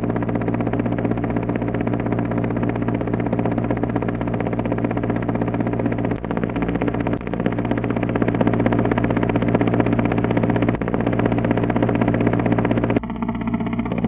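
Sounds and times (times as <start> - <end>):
low engine drone: 0.0 - 14.0
synthesized helicopter rotor chop: 0.0 - 14.0.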